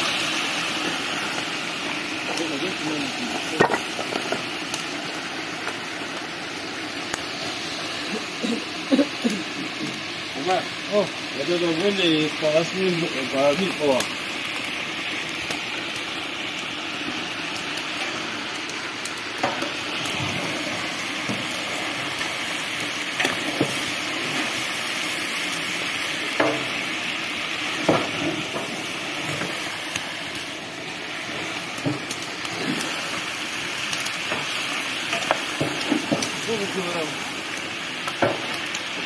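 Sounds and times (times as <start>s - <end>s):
meat sizzling in hot oil: 0.0s - 39.0s.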